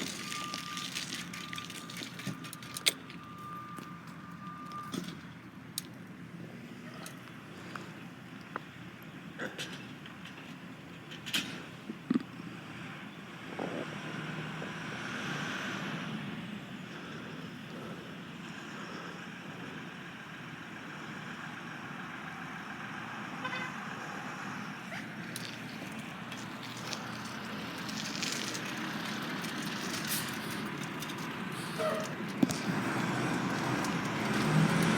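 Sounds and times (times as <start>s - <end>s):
vehicle running: 0.0s - 34.9s.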